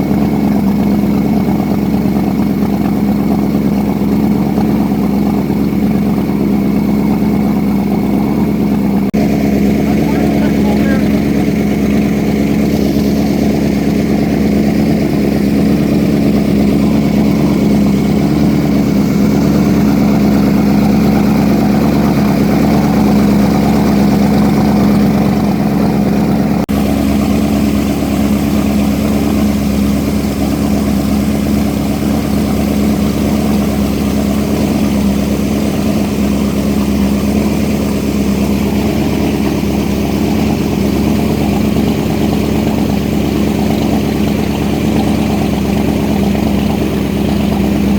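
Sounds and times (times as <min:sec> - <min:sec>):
boat motor droning: 0:00.0 - 0:47.9
rushing wind and water: 0:08.9 - 0:47.9.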